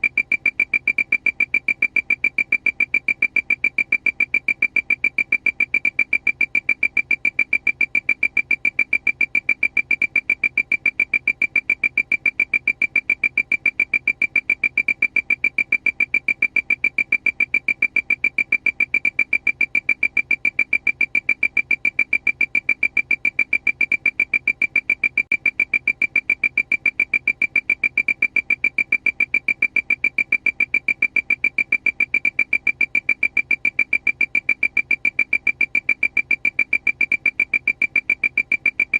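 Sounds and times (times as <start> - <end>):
high piercing alarm beeps: 0.0 - 38.9.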